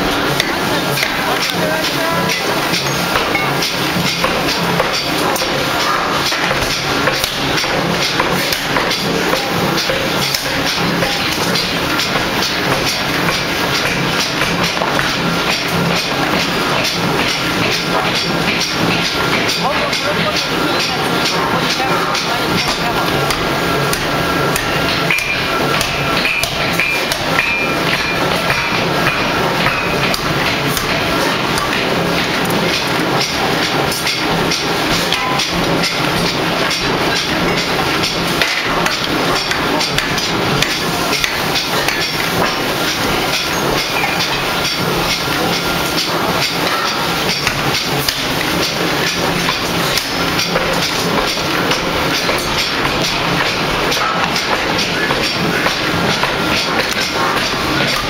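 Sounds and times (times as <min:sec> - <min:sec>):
forging hammer striking metal: 0:00.0 - 0:16.6, 0:17.2 - 0:58.0
machine hum: 0:00.0 - 0:58.0.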